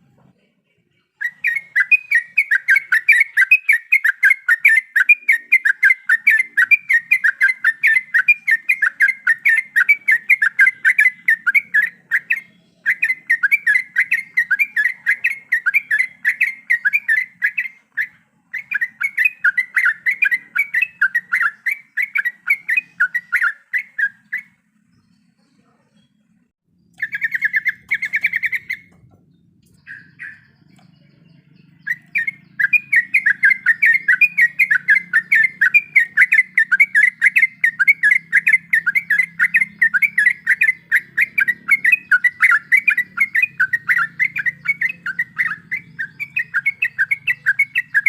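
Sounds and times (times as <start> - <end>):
bird chattering song: 0.0 - 48.0.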